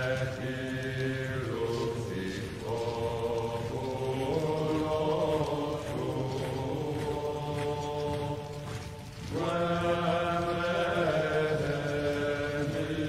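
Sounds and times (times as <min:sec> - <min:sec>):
voices chanting long notes: 0:00.0 - 0:13.0.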